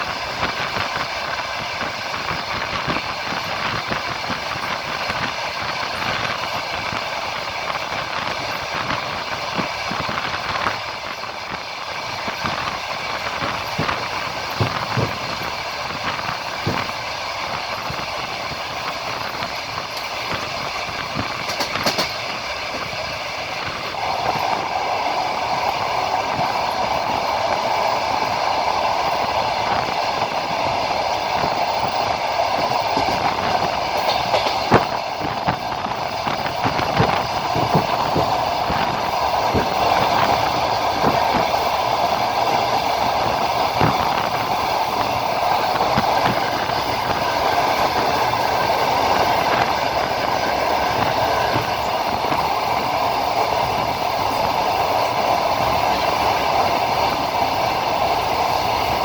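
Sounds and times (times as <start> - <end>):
clacks at rail joints: 0.0 - 59.0
train wheels rumbling on rails: 0.0 - 59.0.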